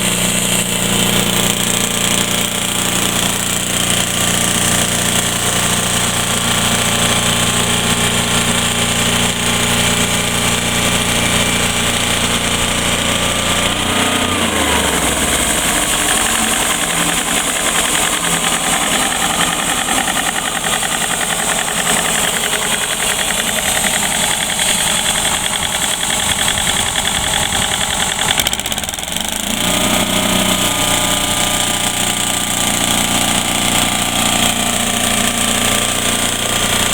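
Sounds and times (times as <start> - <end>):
band sawmill running: 0.0 - 36.9.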